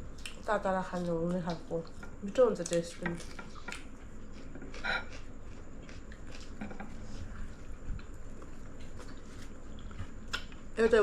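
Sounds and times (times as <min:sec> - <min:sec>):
quiet chewing: 0:00.1 - 0:10.7.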